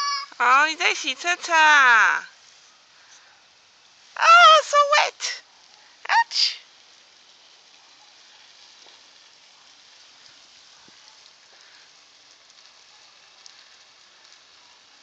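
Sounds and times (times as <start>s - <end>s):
water spraying onto grass: 0.0s - 15.0s.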